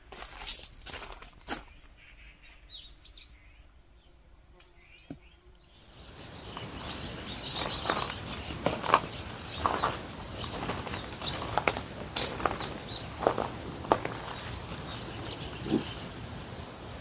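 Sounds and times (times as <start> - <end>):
small birds chirping: 0.0 - 17.0
steady outdoor hiss: 0.0 - 17.0.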